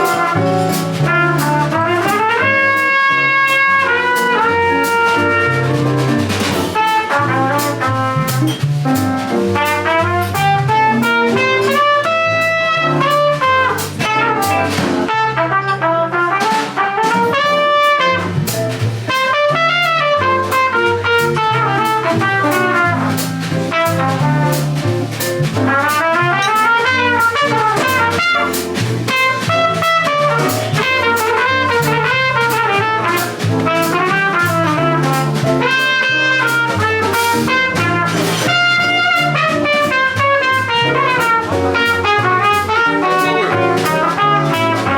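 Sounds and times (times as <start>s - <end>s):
horn solo: 0.0s - 8.5s, 9.6s - 44.9s
drums: 0.0s - 44.9s
walking bass line: 0.0s - 44.9s.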